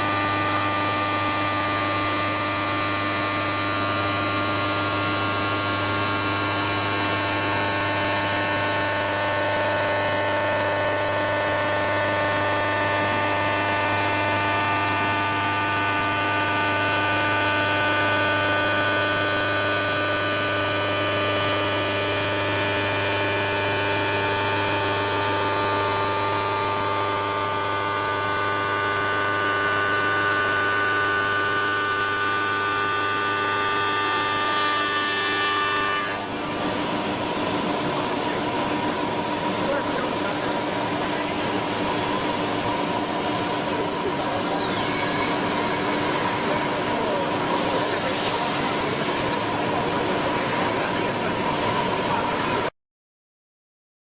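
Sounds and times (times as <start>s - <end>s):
router spindle whine: 0.0s - 52.7s
thinner whine: 0.0s - 52.7s.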